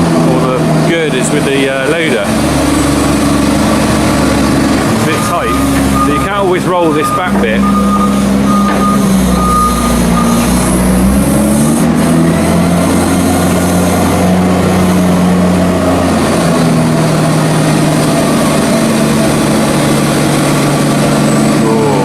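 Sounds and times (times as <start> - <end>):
diesel loader engine working: 0.0 - 22.0.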